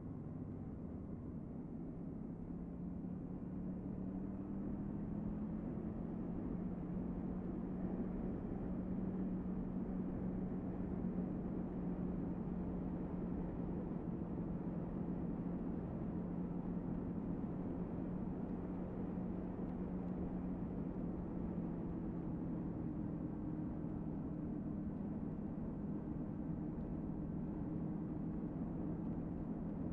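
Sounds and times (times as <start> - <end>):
wind and road noise: 0.2 - 29.9.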